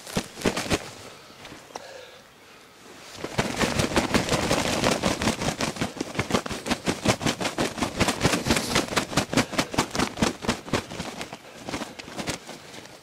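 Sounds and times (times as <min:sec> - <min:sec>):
footsteps running through grass: 0:00.0 - 0:01.0, 0:03.2 - 0:13.0.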